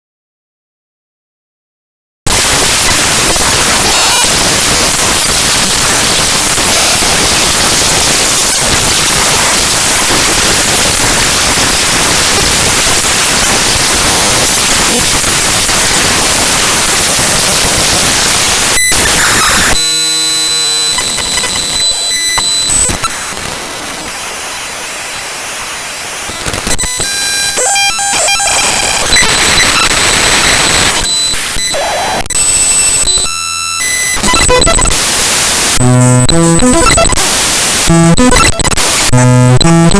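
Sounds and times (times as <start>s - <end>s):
glitchy buzzing with high tones: 2.3s - 39.9s
static hiss: 2.3s - 39.9s.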